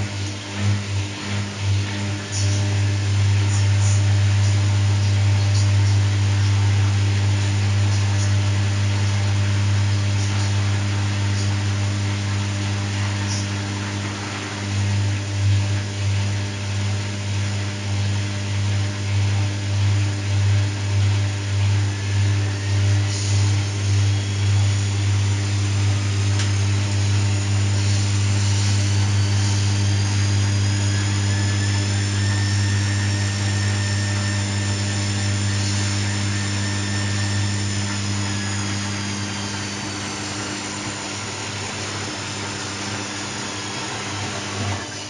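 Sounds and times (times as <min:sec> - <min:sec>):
washing machine running: 0:00.0 - 0:45.0.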